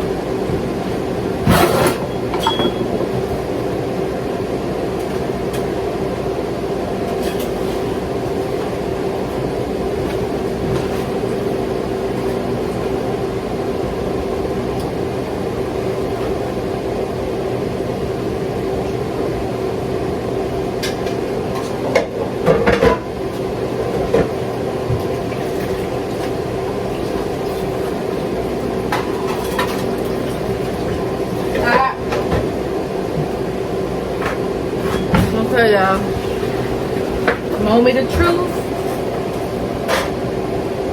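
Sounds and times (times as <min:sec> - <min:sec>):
kitchen appliance humming: 0:00.0 - 0:40.9.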